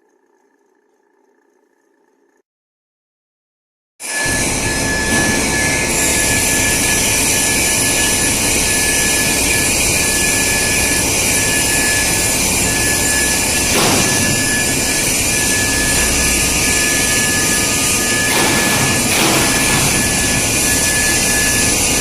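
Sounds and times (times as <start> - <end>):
pipe swaging machine whining: 4.0 - 22.0.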